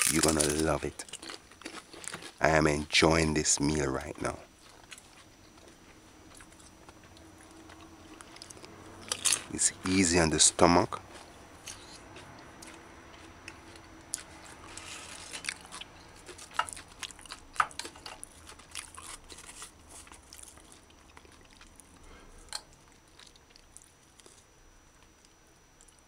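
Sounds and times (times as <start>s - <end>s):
person crunching chips: 0.0s - 3.0s, 6.2s - 24.4s.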